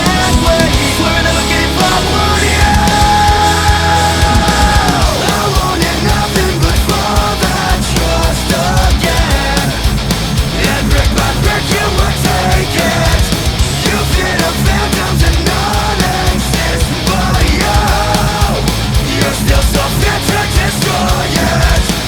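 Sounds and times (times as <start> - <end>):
heavy rock music: 0.0 - 22.0.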